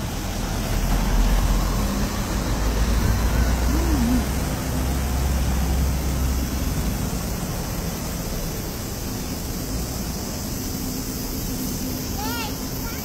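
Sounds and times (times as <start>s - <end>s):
low traffic rumble: 0.0s - 13.0s
outdoor background noise: 0.0s - 13.0s.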